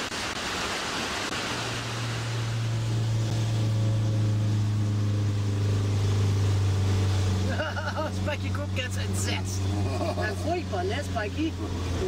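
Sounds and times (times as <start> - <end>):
motorhome engine droning: 0.0 - 12.0.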